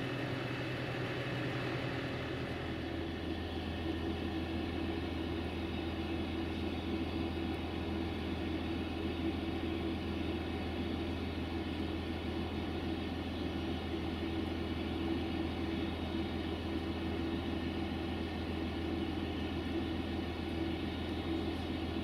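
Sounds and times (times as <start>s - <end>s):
diesel train engine idling: 0.0s - 22.0s.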